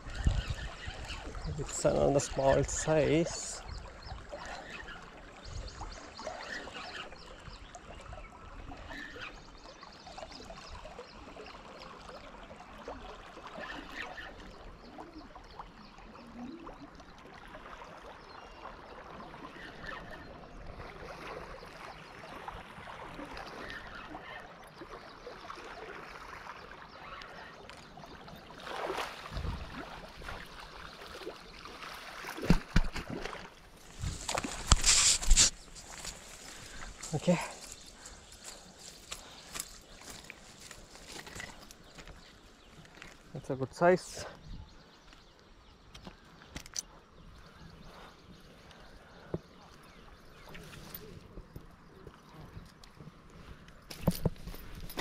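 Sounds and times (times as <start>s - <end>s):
river water: 0.0s - 55.0s.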